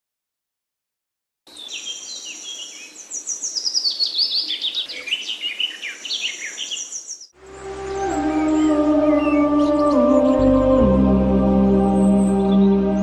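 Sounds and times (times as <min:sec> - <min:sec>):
birds chirping and singing: 0:01.5 - 0:13.0.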